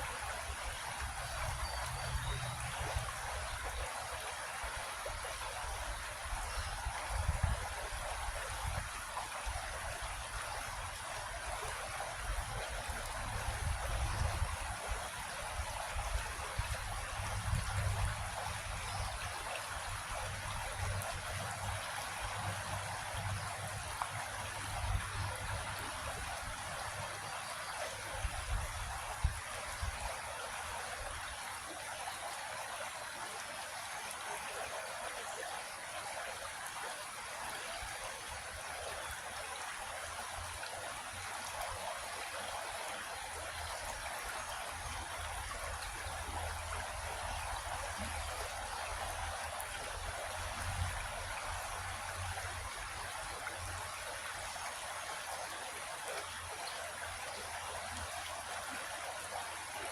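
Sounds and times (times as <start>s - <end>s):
creek water flowing: 0.0s - 59.9s.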